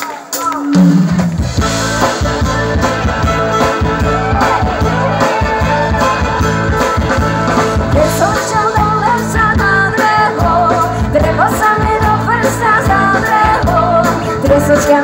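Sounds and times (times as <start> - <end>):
drum kit: 0.0 - 15.0
electric guitar: 0.0 - 15.0
bass guitar: 0.7 - 15.0.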